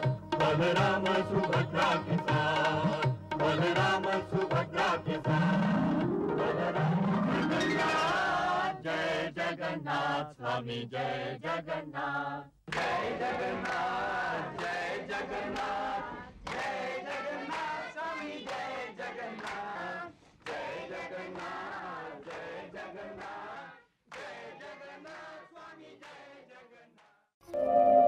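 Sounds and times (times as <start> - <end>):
choir singing a chant: 0.3 - 27.0.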